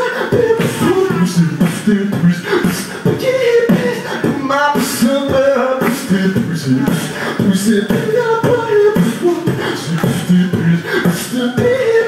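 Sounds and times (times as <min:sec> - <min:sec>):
beatboxing through microphone: 0:00.0 - 0:12.0.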